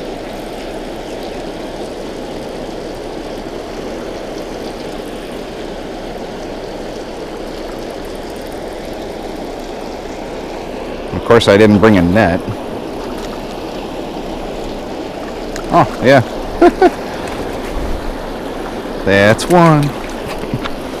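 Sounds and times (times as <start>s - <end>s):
water pouring over spillway: 0.0s - 21.0s.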